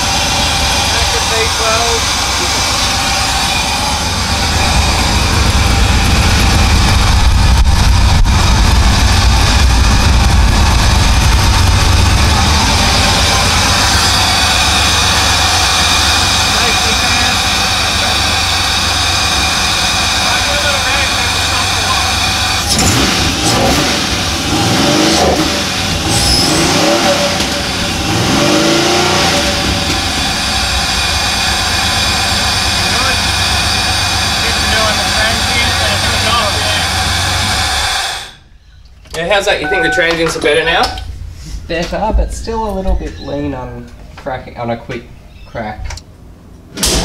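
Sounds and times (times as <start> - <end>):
engine running with deep exhaust drone: 0.0 - 39.1.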